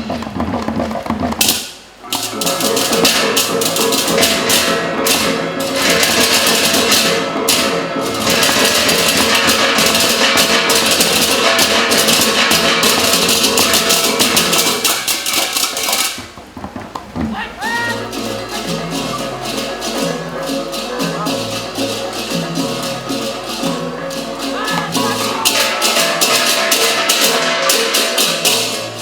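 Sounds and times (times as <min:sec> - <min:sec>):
percussion ensemble music: 0:00.0 - 0:29.0.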